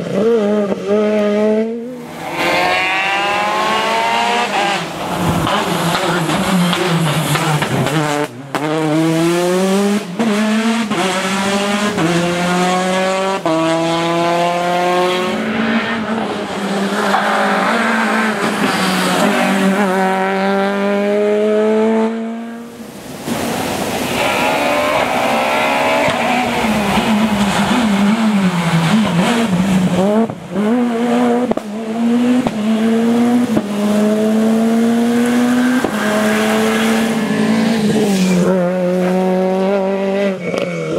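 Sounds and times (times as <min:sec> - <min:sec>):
rally car engines accelerating hard: 0:00.0 - 0:40.9.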